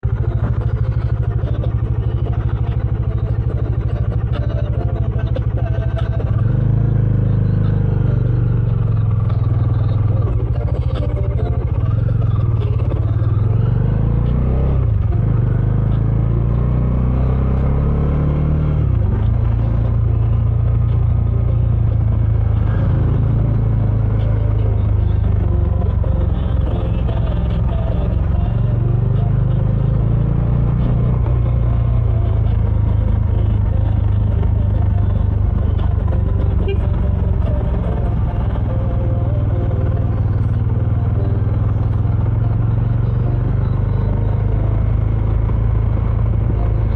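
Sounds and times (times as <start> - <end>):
motorcycle engine revving while riding: 0.0 - 46.9.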